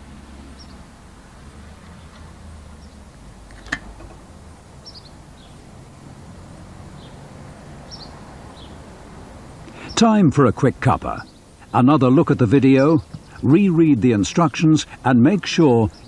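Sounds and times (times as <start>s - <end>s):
tape hum and hiss: 0.0s - 16.0s.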